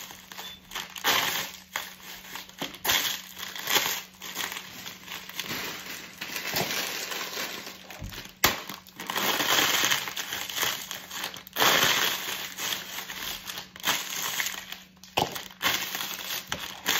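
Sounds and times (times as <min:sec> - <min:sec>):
crisps crunching under boot: 0:00.0 - 0:16.9
plastic packets crinkling: 0:00.0 - 0:16.9.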